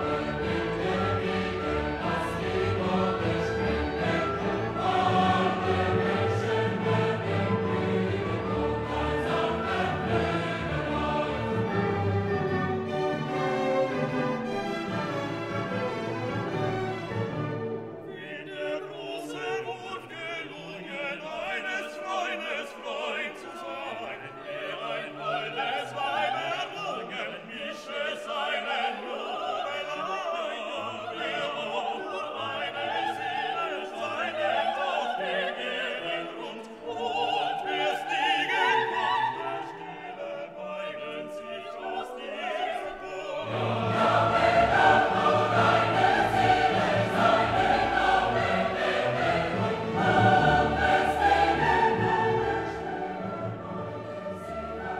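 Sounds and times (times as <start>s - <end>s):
operatic singing with orchestra: 0.0s - 54.9s.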